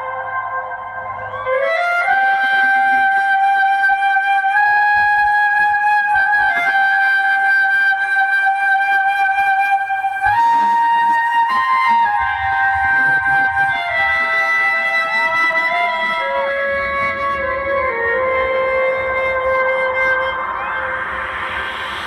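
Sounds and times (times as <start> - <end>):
flute-like lead music over loudspeaker: 0.0 - 22.0.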